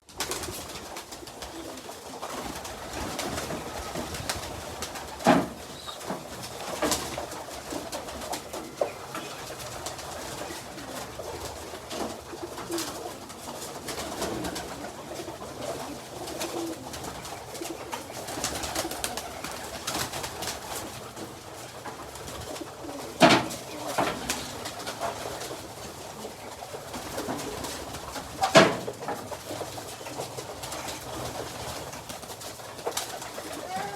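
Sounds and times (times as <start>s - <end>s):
pigeons cooing: 0.2s - 33.9s.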